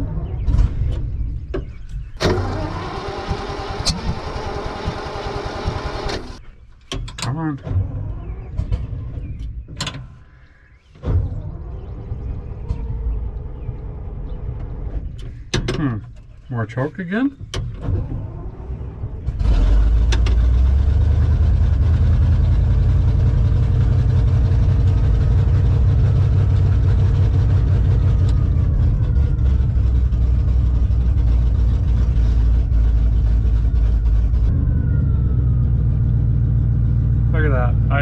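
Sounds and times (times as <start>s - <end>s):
engine running from inside cab: 0.0s - 6.5s, 7.6s - 9.6s, 11.0s - 38.0s.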